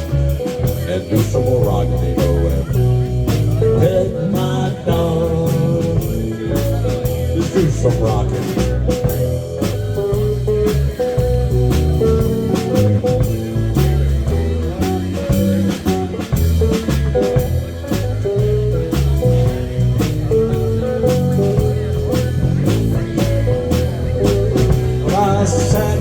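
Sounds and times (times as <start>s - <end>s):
blues band playing: 0.0s - 26.0s
guitar melody: 0.0s - 26.0s.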